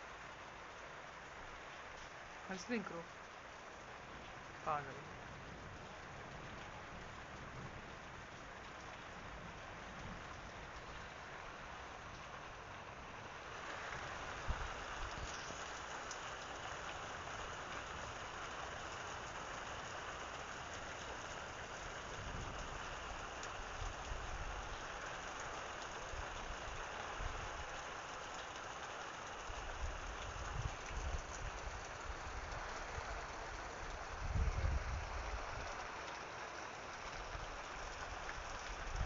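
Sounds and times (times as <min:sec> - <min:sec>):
rain hissing: 0:00.0 - 0:39.0.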